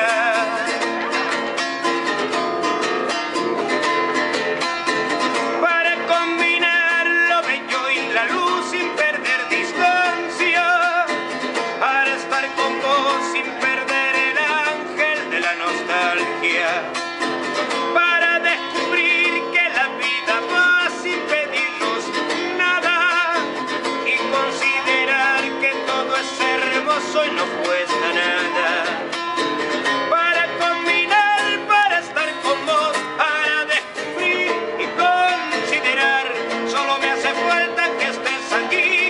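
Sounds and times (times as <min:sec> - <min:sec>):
acoustic guitar strumming: 0:00.0 - 0:39.0
man singing with vibrato: 0:00.0 - 0:39.0.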